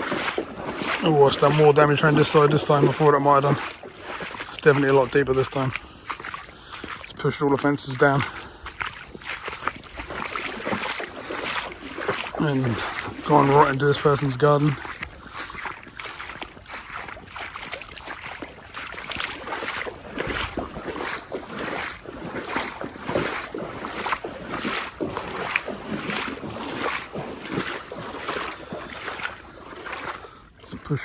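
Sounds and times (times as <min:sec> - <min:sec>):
legs wading through water: 0:00.0 - 0:31.0.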